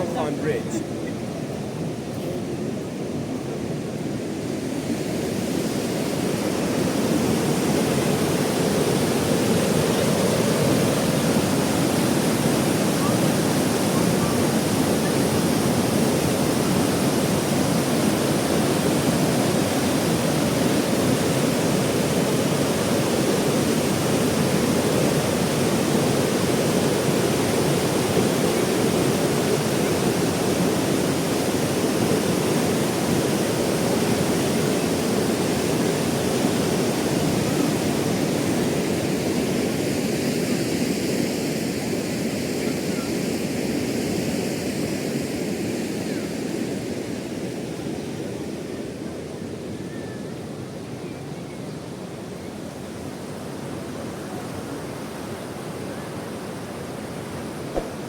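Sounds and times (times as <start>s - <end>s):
river water rushing: 0.0s - 41.4s, 52.8s - 58.0s.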